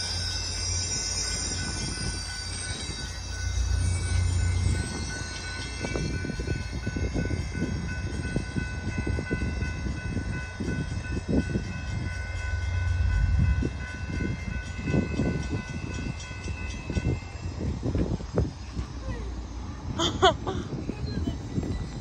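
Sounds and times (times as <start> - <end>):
electronic crossing bell ringing: 0.0 - 17.6
train rumble: 0.0 - 22.0.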